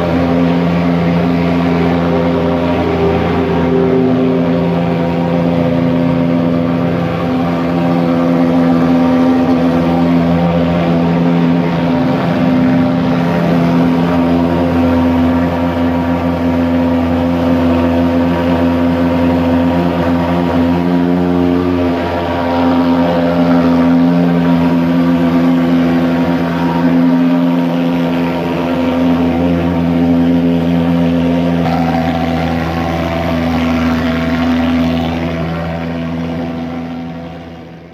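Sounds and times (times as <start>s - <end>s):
fogging machine droning: 0.0s - 37.9s.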